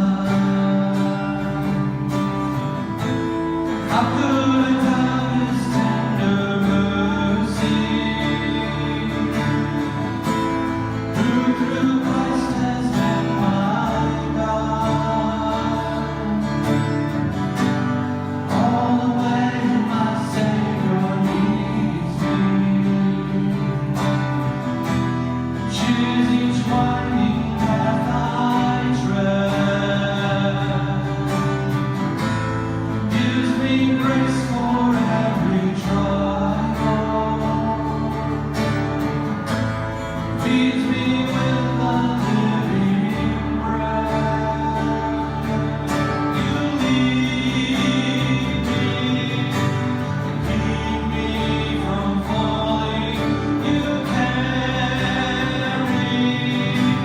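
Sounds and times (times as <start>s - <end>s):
guitar accompaniment: 0.0s - 57.0s
people singing worship song: 0.0s - 57.0s.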